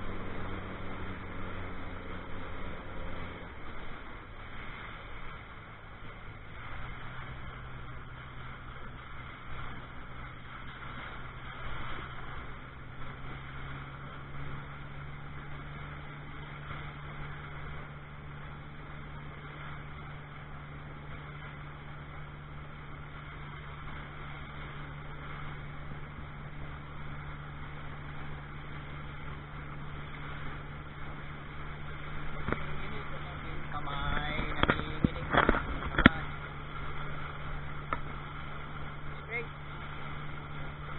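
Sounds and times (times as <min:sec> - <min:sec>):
motorboat engine droning: 0:00.0 - 0:40.9
wind and water rushing: 0:00.0 - 0:40.9.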